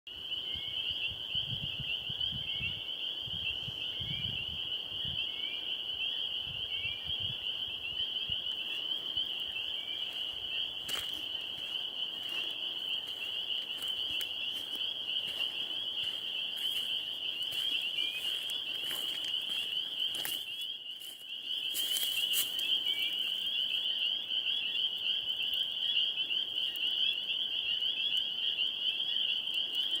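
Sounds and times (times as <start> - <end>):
chorus of small animals calling: 5.4 - 30.0.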